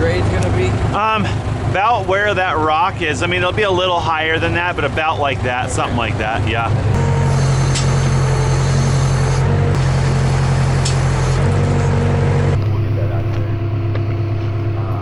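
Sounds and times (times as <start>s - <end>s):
large engine humming: 0.0s - 15.0s.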